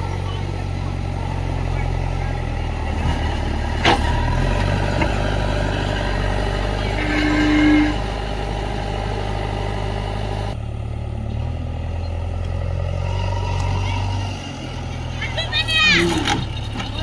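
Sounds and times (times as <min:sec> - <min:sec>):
diesel machinery drone: 0:00.0 - 0:17.0.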